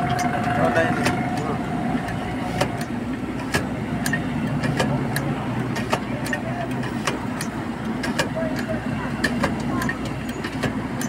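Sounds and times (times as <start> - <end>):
fry cutter clicking: 0.0 - 11.0
low engine hum: 0.0 - 11.0.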